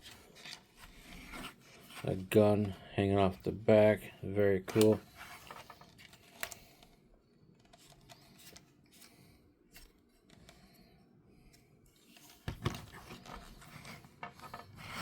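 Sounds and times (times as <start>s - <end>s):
rubbing and handling noise: 0.0s - 10.6s, 11.4s - 15.0s.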